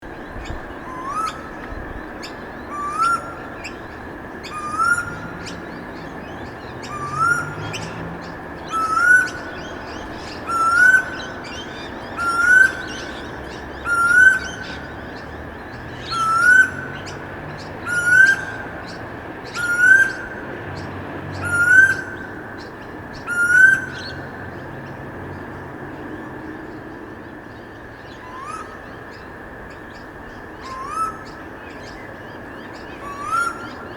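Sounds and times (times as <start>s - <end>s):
small birds chirping: 0.0s - 33.9s
cuckoo calling: 0.1s - 24.9s, 28.1s - 29.3s, 30.0s - 33.9s.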